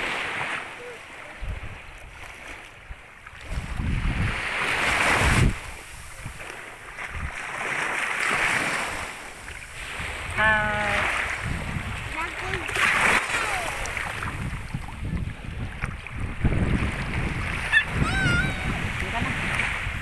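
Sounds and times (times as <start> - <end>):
waves breaking on sandy shore: 0.0 - 20.0
wind buffeting microphone: 1.3 - 7.5, 8.8 - 20.0.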